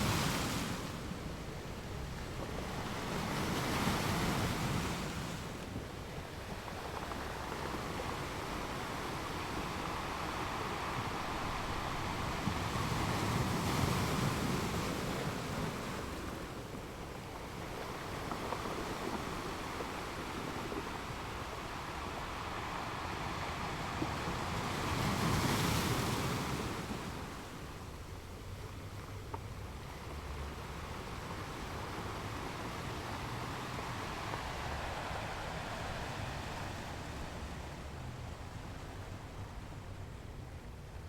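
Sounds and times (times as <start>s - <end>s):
sea waves breaking: 0.0s - 40.7s.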